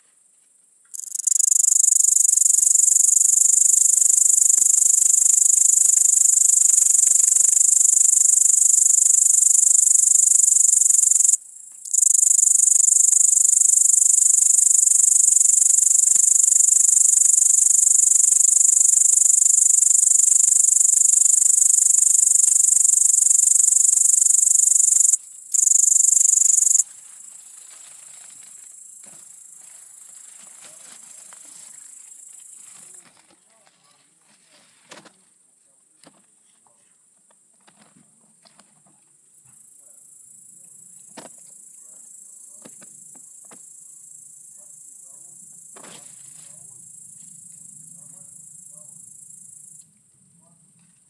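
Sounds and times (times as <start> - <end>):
bush-cricket stridulating: 0.2 - 36.4, 37.0 - 51.0.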